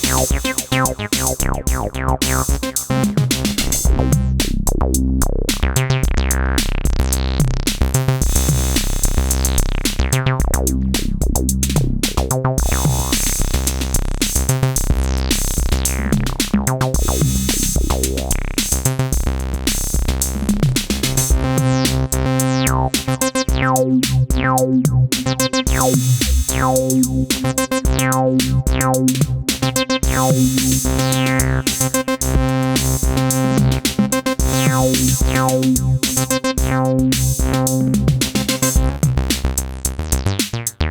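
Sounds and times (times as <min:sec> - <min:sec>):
acid bass line on synthesizer: 0:00.0 - 0:40.9
drum machine beat: 0:00.0 - 0:40.9.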